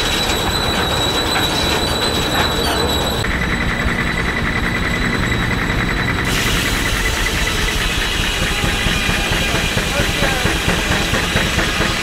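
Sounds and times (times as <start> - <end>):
saw blade whining: 0.0 - 12.0.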